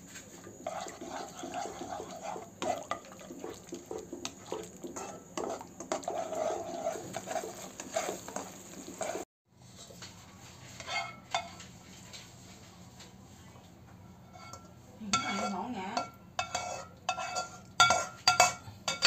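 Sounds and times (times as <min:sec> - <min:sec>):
spatula scraping sauce in wok: 0:00.0 - 0:11.8, 0:14.2 - 0:19.0.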